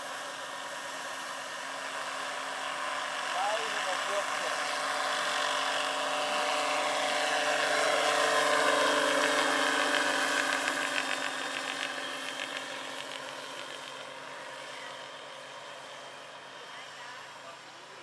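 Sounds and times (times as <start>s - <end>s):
model helicopter whine and rotor noise: 0.0s - 18.0s.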